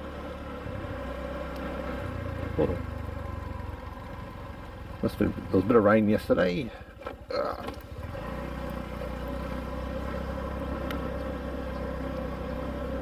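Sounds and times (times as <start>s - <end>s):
small motorbike engine running: 0.0s - 13.0s.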